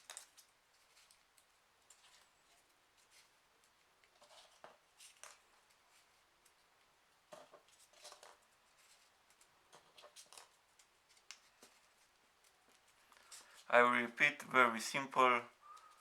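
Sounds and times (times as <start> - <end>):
paper rustling and crinkling: 0.0 - 6.7, 7.3 - 13.7.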